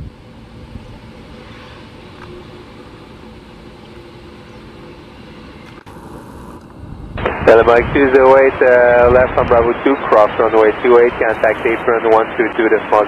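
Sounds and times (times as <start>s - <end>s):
jet engines rumbling at low thrust: 0.0s - 13.0s.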